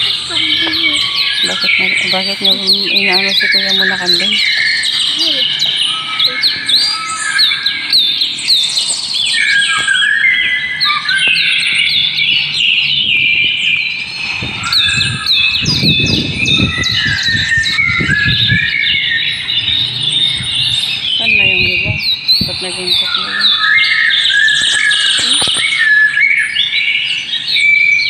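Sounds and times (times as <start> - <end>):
low noise: 0.0 - 25.8
small birds chirping: 0.0 - 28.0.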